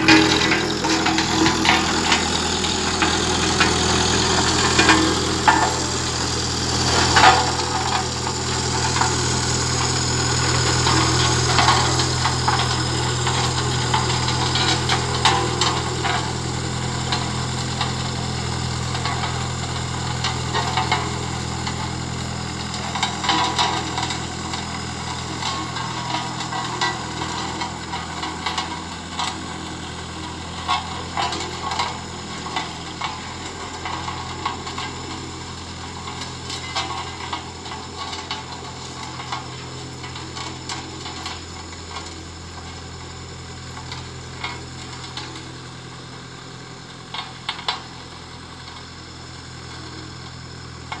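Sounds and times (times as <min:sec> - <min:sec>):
clicks and crackling rattles: 0:00.0 - 0:42.2
road roller engine running: 0:00.0 - 0:51.0.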